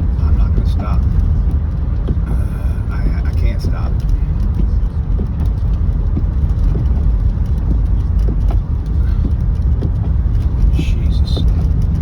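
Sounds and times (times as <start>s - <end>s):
car driving on snowy road: 0.0s - 12.0s.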